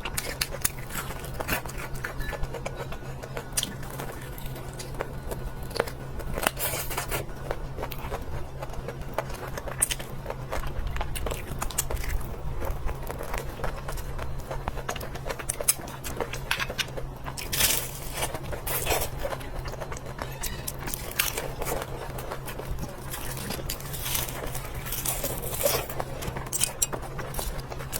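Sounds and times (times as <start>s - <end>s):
crinkling: 0.0s - 27.9s
crunchy chewing: 0.0s - 27.9s
steady low hum: 0.0s - 27.9s.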